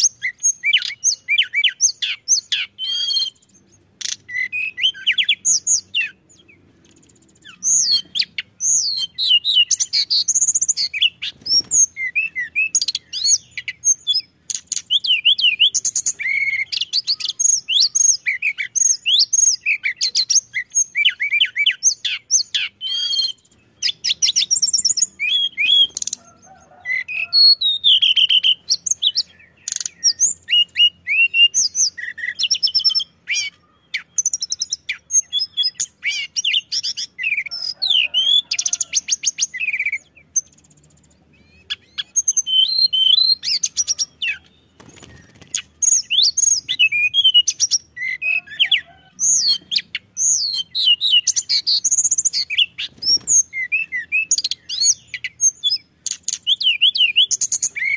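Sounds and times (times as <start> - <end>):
bird singing chirps and trills: 0.0 - 57.9.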